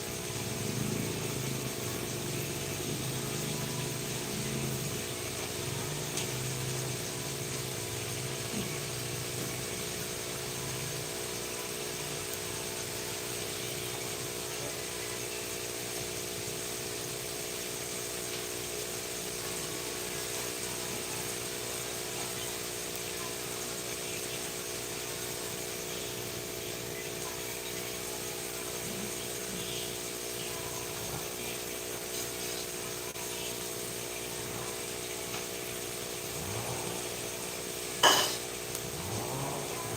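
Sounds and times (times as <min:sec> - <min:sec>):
machine hum with hiss: 0:00.0 - 0:39.9.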